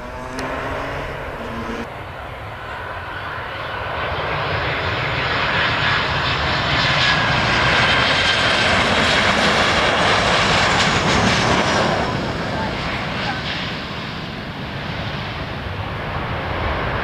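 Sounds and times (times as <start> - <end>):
jet engines roaring and whining: 0.0 - 17.0.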